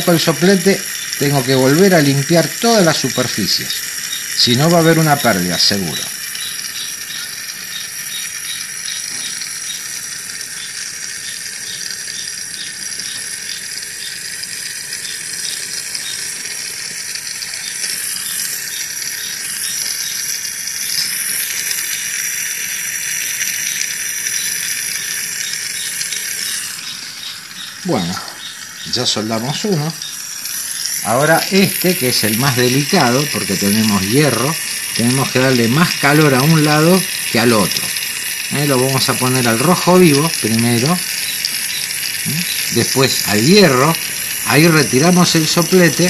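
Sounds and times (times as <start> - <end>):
light even ticking: 0.0 - 46.0
torch flame hissing: 0.0 - 46.0.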